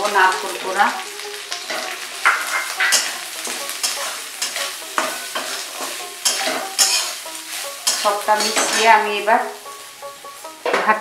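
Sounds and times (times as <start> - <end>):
oil sizzling: 0.0 - 11.0
spatula scraping metal pan: 1.6 - 10.9.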